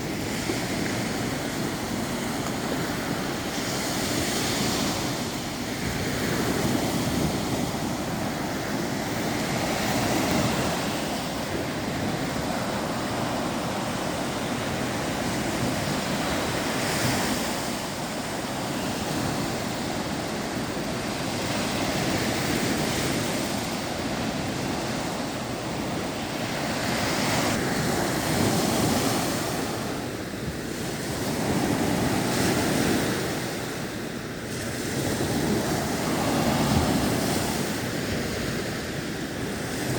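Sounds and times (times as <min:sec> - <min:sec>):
waves washing in: 0:00.0 - 0:39.9.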